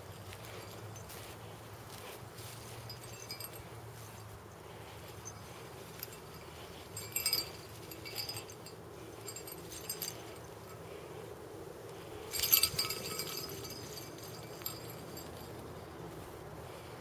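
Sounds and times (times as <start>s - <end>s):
cat collar jingling: 0.0s - 11.2s, 12.0s - 16.0s.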